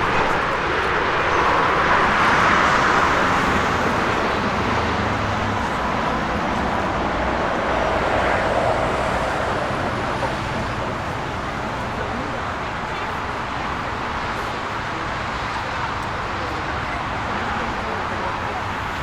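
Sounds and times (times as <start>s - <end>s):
road traffic roar: 0.0s - 19.0s.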